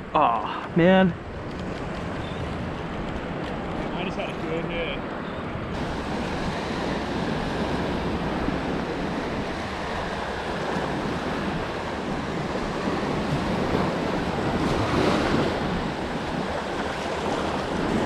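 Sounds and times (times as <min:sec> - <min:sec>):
ocean surf breaking: 0:00.7 - 0:18.0
wind buffeting microphone: 0:01.2 - 0:18.0.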